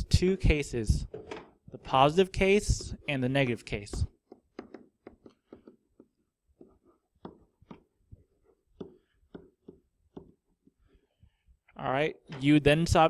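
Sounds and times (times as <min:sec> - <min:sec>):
stylus tapping and scratching on tablet: 0:00.1 - 0:11.4.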